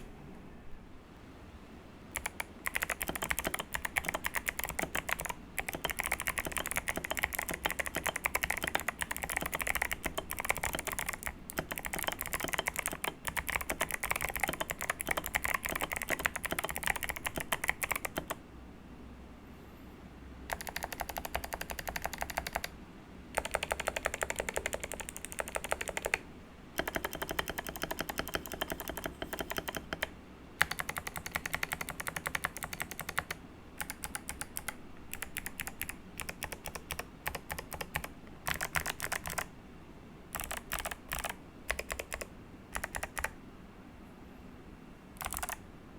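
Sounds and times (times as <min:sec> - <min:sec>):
clicky mechanical keyboard typing: 0:02.1 - 0:18.4, 0:20.5 - 0:26.2, 0:26.8 - 0:39.5, 0:40.3 - 0:43.4, 0:45.2 - 0:45.6
long keyboard keys pressed rapidly: 0:02.1 - 0:18.4, 0:20.5 - 0:22.7, 0:23.3 - 0:26.2, 0:26.8 - 0:39.5, 0:40.3 - 0:43.4, 0:45.2 - 0:45.6.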